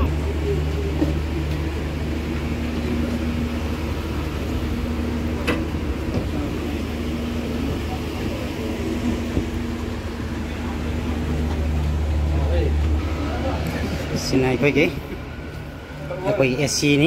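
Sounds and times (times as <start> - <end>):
train engine humming: 0.0 - 17.0.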